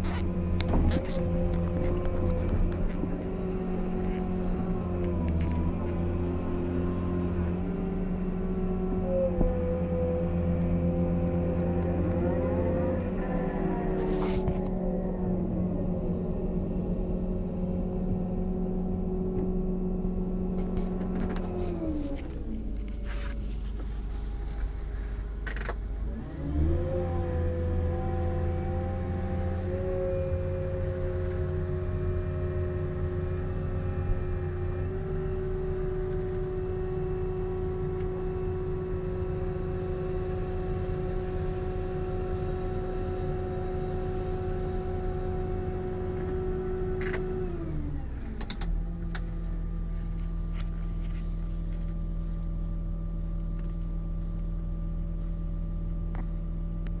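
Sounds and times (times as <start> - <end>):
excavator diesel engine running: 0.0 - 57.0
steady whine: 0.0 - 57.0.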